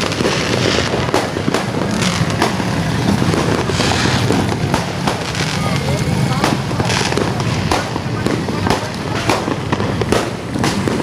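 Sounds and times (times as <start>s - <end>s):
firecrackers and fireworks banging: 0.0s - 11.0s.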